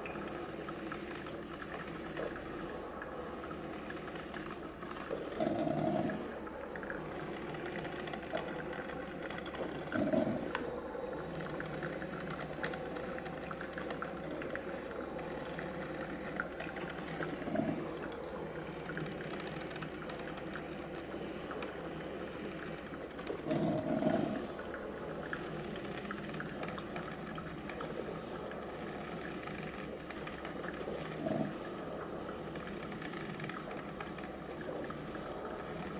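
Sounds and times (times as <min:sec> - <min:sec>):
boiling water spurts: 0:00.0 - 0:35.9
coffee maker hissing: 0:01.9 - 0:32.8.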